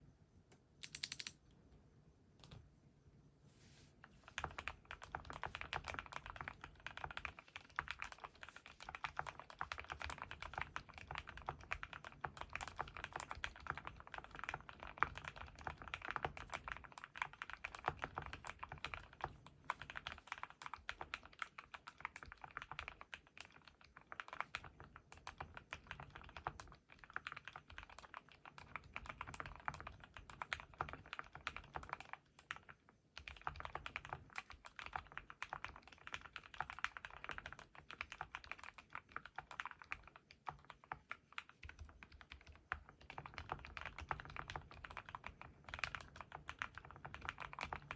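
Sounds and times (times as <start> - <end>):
typing on mechanical keyboard: 0.8 - 1.4, 4.2 - 47.9.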